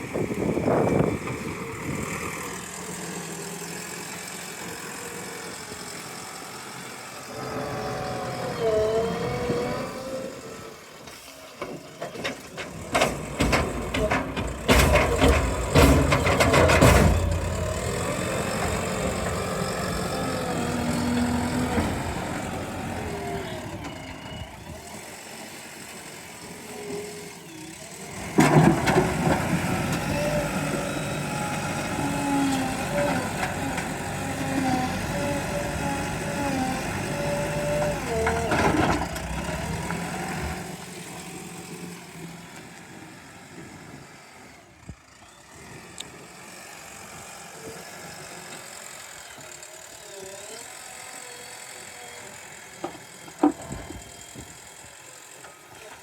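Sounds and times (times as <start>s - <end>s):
backhoe diesel engine running: 0.0s - 56.0s.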